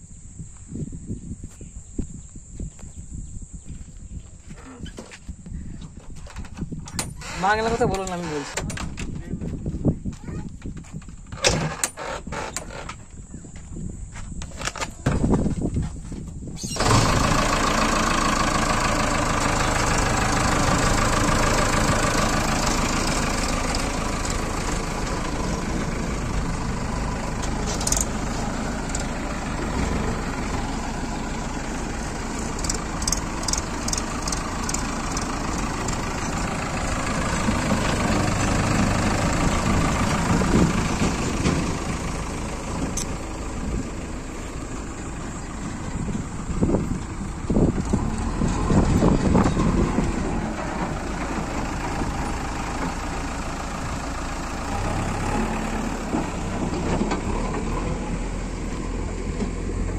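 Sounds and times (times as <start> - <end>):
diesel engine starting and running: 3.1 - 59.9.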